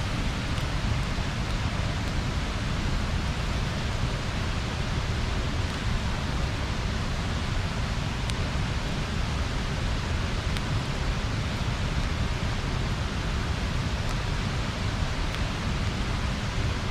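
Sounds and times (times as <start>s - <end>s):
river water rushing over a weir: 0.0s - 16.9s.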